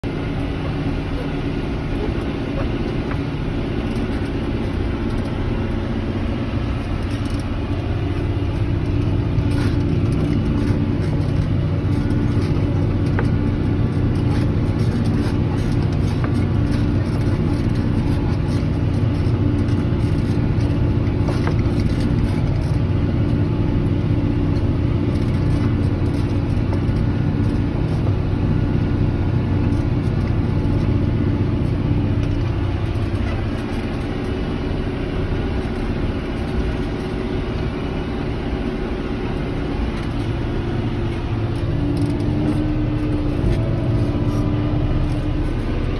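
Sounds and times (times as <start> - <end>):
tractor engine: 0.0 - 45.9
light ticks and rattles: 6.1 - 45.9.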